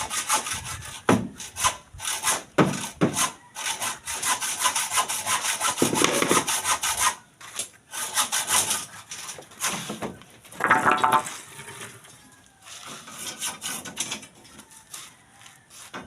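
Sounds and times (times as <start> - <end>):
hand saw cutting: 0.0 - 10.0, 12.7 - 16.0.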